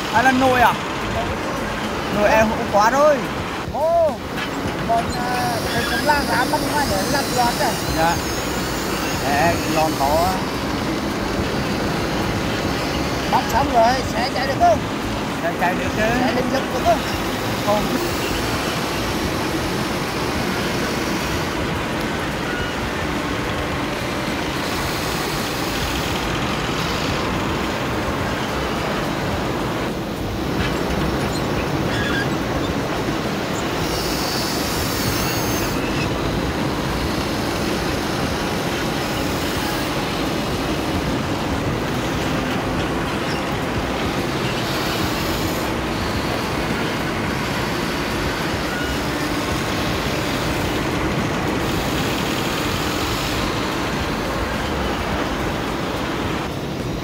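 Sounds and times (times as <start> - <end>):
toy excavator motors whirring: 4.4 - 14.8, 15.5 - 28.8, 30.2 - 55.6.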